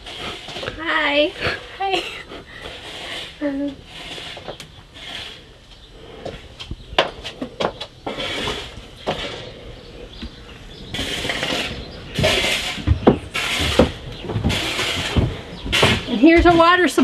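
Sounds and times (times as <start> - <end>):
rustling: 2.5 - 17.0
footsteps: 2.6 - 17.0.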